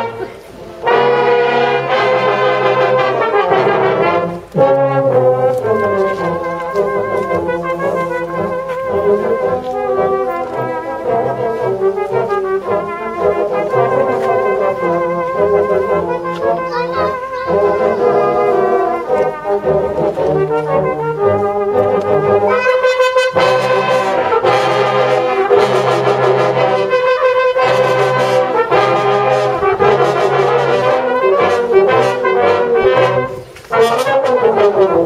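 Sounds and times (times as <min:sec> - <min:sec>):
brass band playing: 0:00.0 - 0:35.0.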